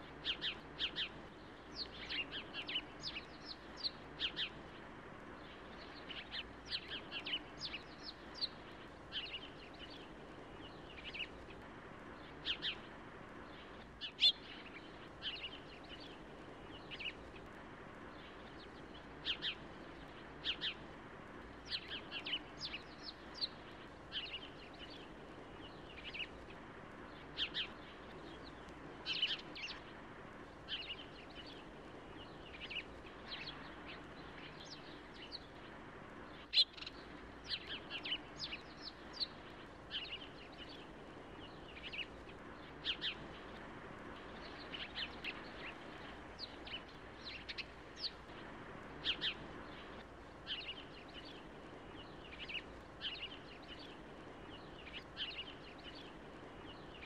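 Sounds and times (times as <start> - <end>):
faint outdoor hiss: 0.0 - 57.0
small birds chirping: 0.0 - 57.0.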